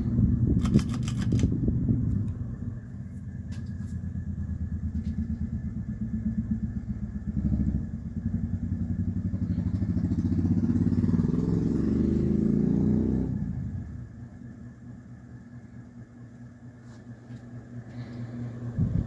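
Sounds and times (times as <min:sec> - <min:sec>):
ceiling fan pulsing whoosh: 0:00.0 - 0:19.0.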